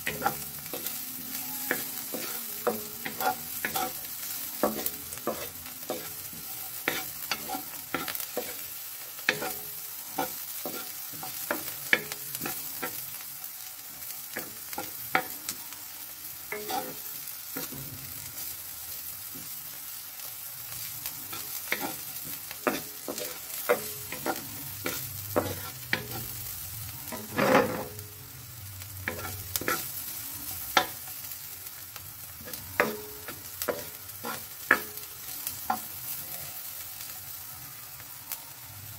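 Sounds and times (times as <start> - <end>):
spatula knocking and scraping wok: 0.0 - 18.6, 19.2 - 28.2, 29.0 - 36.8
frying sizzle: 0.0 - 38.9.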